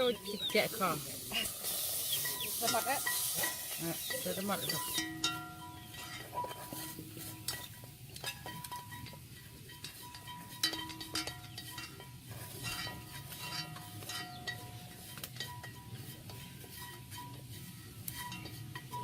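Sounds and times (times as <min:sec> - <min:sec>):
dishes and cutlery clinking: 0:00.0 - 0:19.0.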